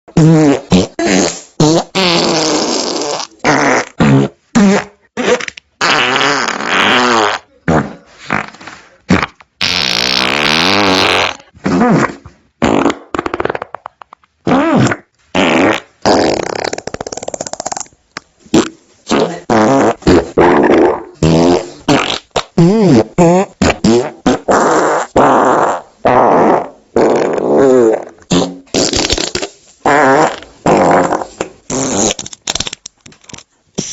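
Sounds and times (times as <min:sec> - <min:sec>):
fart sounds: 0:00.1 - 0:32.8.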